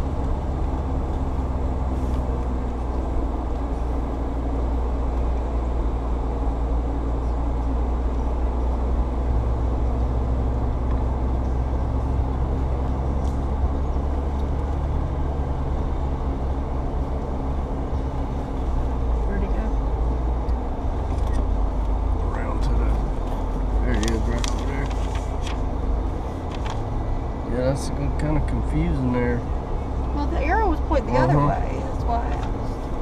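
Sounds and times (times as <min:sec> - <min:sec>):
car engine running at low speed: 0:00.0 - 0:33.0.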